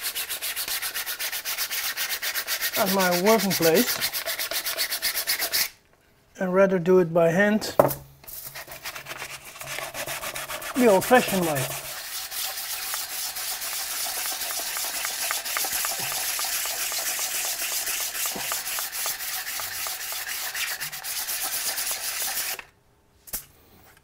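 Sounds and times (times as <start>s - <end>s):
sandpaper rubbing on plastic: 0.0s - 5.8s, 8.3s - 22.7s.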